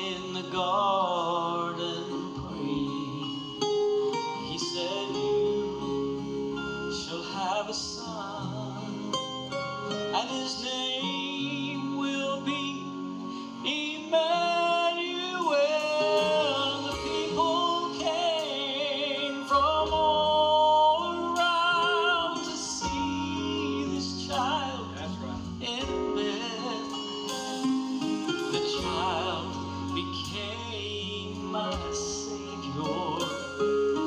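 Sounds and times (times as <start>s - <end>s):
gospel singing with vibrato: 0.0s - 34.0s
instrumental accompaniment: 0.0s - 34.0s.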